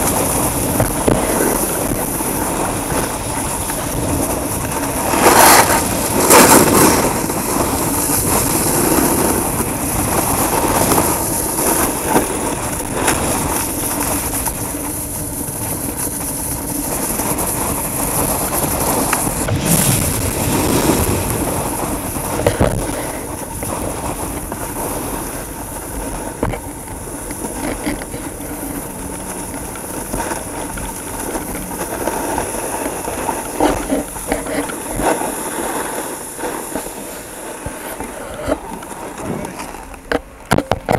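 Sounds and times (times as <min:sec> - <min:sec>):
snowboard scraping on snow: 0:00.0 - 0:40.3
snowboard bumps: 0:00.0 - 0:40.9.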